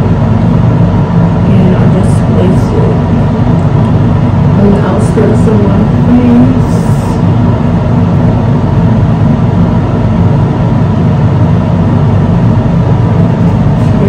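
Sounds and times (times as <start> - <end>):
vehicle moving low rumble: 0.0 - 14.0.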